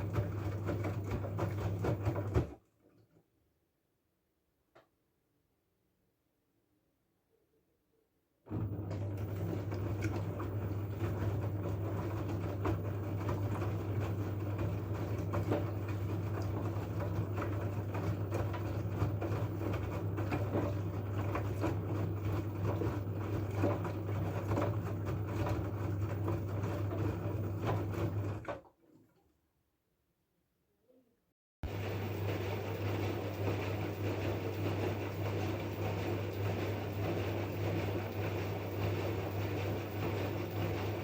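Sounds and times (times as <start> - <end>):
washing machine hum: 0.0 - 3.3, 8.5 - 29.4, 31.6 - 41.0.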